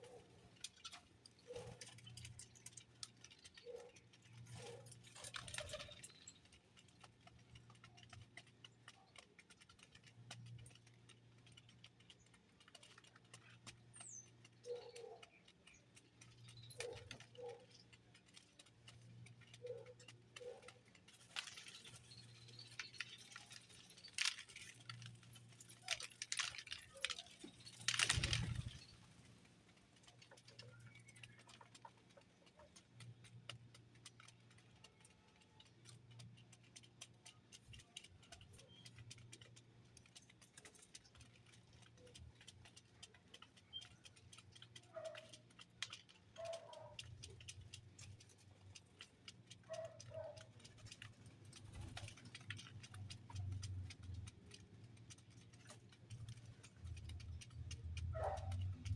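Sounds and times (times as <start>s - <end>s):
birds clicking and tapping: 0.0s - 58.9s
feeder rattle: 0.0s - 58.9s.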